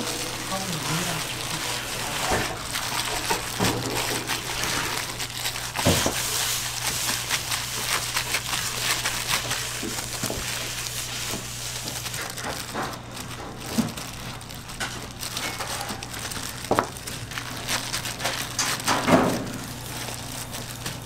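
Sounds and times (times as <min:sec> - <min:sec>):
plastic gloves crinkling: 0:00.0 - 0:21.0.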